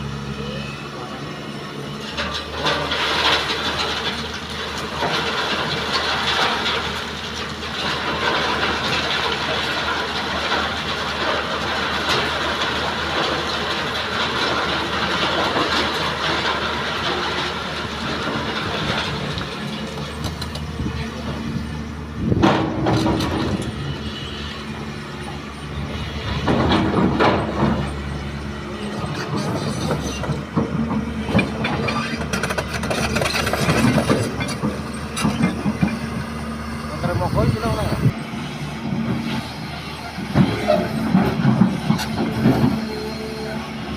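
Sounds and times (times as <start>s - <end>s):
excavator diesel engine rattling: 0.0s - 43.9s.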